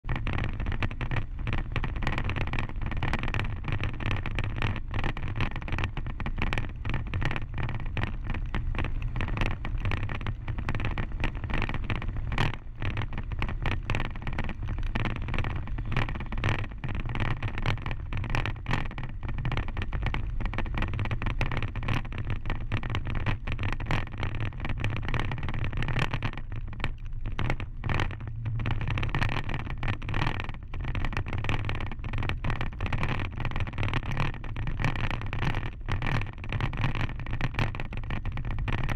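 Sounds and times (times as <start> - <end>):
gravel road rumble: 0.0 - 38.9
knocks and crackles over stones: 0.1 - 38.9.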